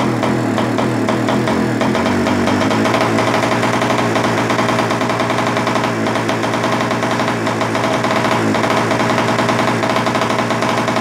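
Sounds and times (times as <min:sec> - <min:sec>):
two-stroke moped engine running: 0:00.0 - 0:11.0.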